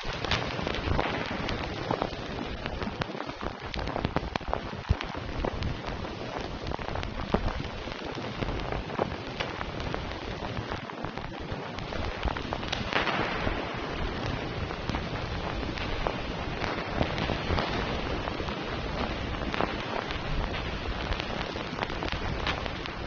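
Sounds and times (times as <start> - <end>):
raindrops hitting surface: 0.0 - 23.0.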